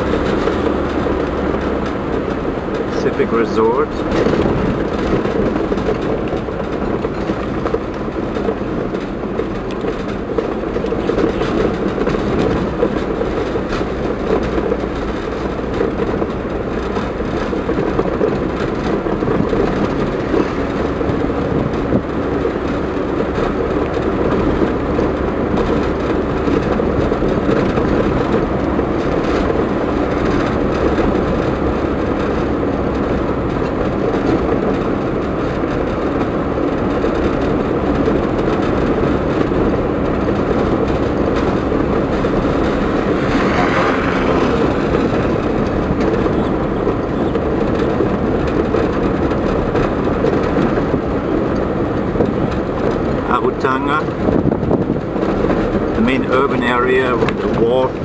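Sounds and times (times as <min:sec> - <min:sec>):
car tyre and engine rumble: 0:00.0 - 0:58.0.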